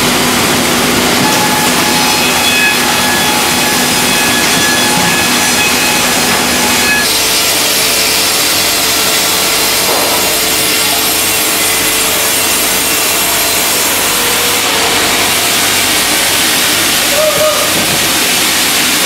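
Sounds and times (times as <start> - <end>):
bandmill sawing through log: 0.0 - 19.0.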